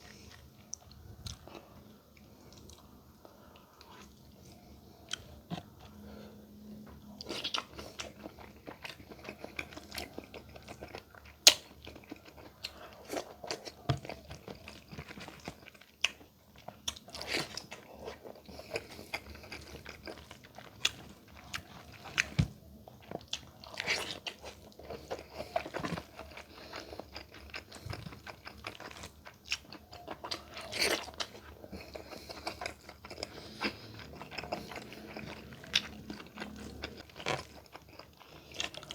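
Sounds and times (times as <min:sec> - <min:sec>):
person chewing and crunching: 0:00.0 - 0:06.1, 0:06.8 - 0:38.9.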